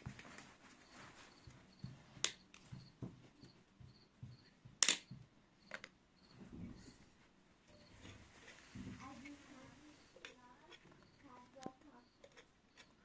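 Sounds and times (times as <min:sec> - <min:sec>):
soft handling noise: 0:00.0 - 0:04.4, 0:05.7 - 0:12.9.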